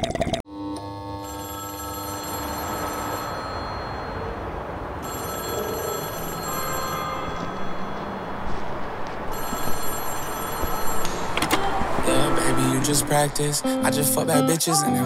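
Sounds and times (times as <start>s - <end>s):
telephone ringing: 1.0s - 8.6s, 9.3s - 15.0s.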